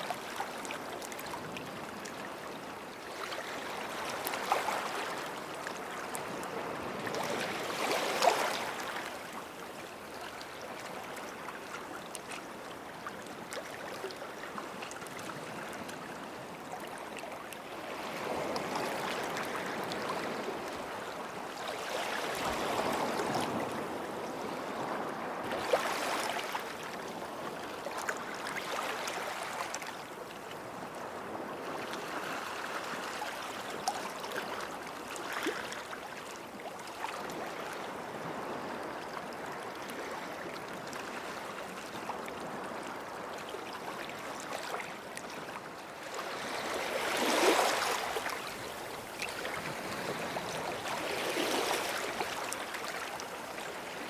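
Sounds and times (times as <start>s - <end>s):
small waves washing on a beach: 0.0s - 54.0s.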